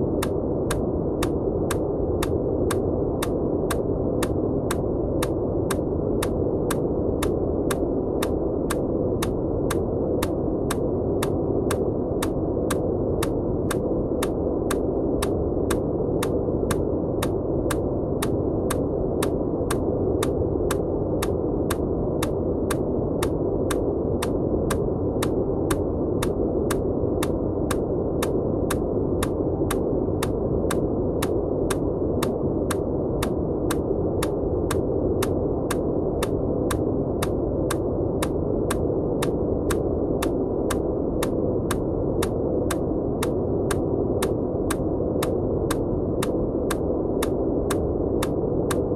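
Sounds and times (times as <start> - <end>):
steady low noise: 0.0 - 48.9.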